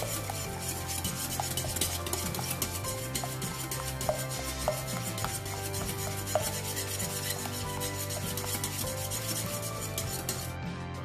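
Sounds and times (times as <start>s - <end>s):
whisk scraping glass bowl: 0.0s - 10.7s.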